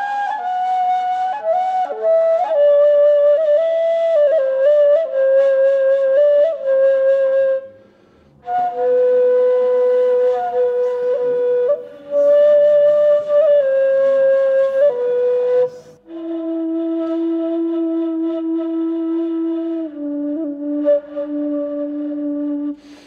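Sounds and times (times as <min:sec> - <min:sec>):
reed flute slow melody: 0:00.0 - 0:23.0.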